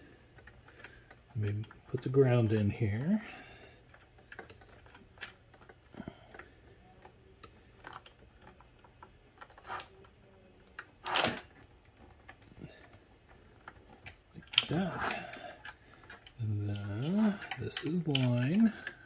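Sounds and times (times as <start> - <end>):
wires clicking and tapping: 0.0 - 19.0.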